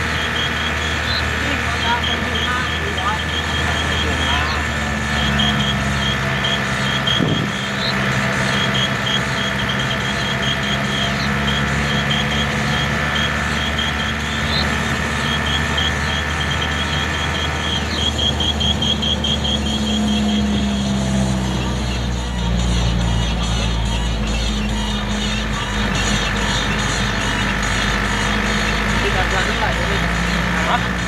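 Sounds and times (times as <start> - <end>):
high-pitched chirps: 0.0 - 30.8
vehicle engine running: 0.0 - 31.0.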